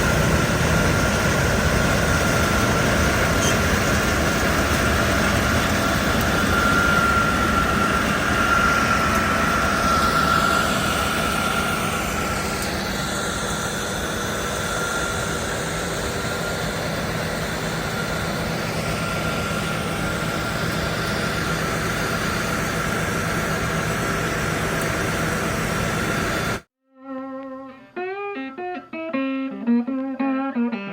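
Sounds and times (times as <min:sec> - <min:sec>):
combine harvester drone: 0:00.0 - 0:26.7
high whine: 0:00.0 - 0:30.9.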